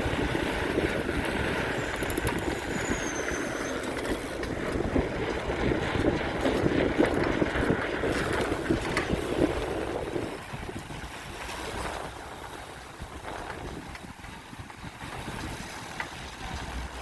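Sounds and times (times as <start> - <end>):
bicycle road rumble: 0.0 - 17.0
wind buffeting microphone: 0.0 - 17.0.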